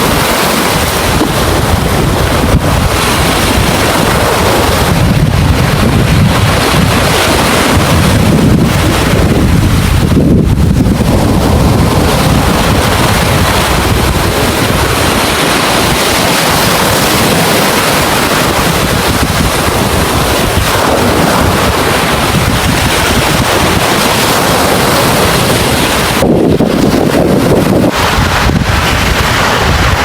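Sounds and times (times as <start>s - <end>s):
ocean waves breaking: 0.0s - 30.0s
wind buffeting microphone: 0.0s - 30.0s.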